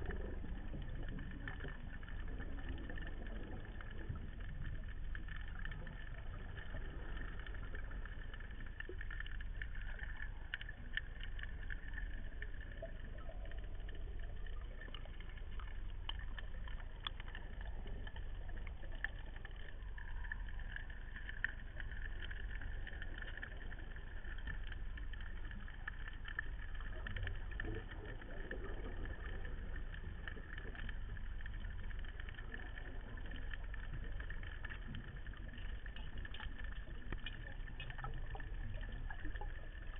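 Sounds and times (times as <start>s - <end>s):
faint clicks: 0.0s - 39.9s
low hum: 0.0s - 39.9s.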